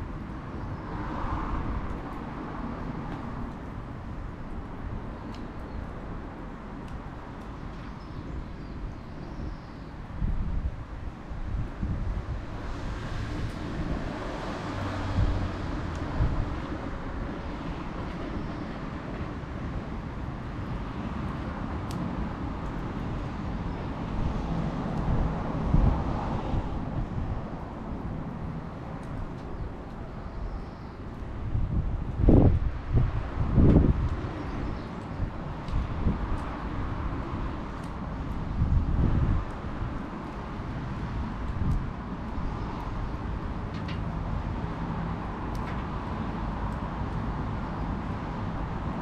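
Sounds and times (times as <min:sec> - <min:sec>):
campfire crackles: 0:00.0 - 0:09.3, 0:10.0 - 0:49.0
low fire rumble: 0:00.0 - 0:49.0.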